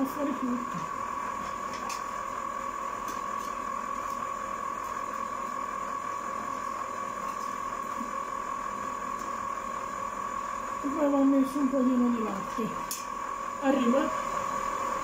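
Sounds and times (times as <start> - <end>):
ice cream maker motor whining: 0.0 - 15.0.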